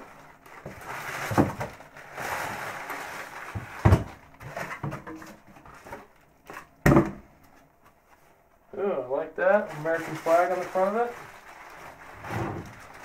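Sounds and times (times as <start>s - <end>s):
cardboard and packing rustling: 0.0s - 8.4s, 9.4s - 13.0s.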